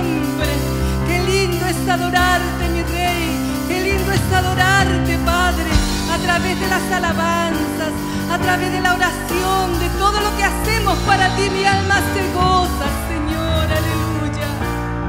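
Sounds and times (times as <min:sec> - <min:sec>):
woman singing worship song: 0:00.0 - 0:14.8
backing chords: 0:00.0 - 0:15.0.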